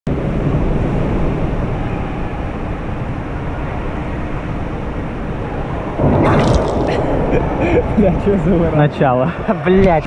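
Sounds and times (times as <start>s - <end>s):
faint even hum: 0.1s - 9.5s
vehicle rumble: 0.1s - 10.0s.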